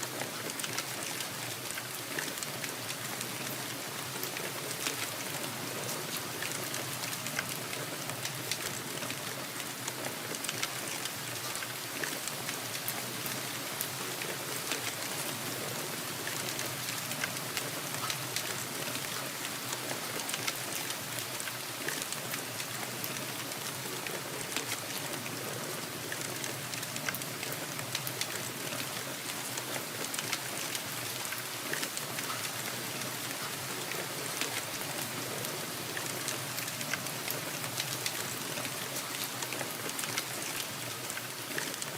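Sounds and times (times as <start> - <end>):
raindrops ticking: 0.0 - 41.9
steady rainfall: 0.0 - 41.9.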